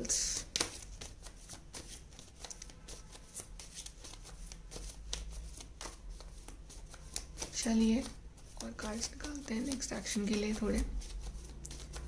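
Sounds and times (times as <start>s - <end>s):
cards being shuffled: 0.1s - 12.0s.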